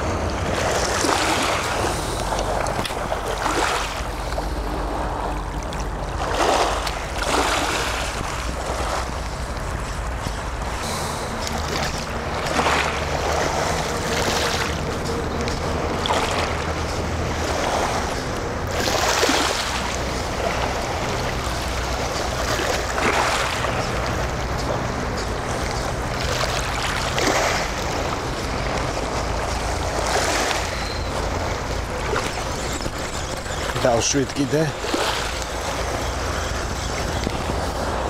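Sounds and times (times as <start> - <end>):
sea waves breaking on shore: 0.0 - 38.0.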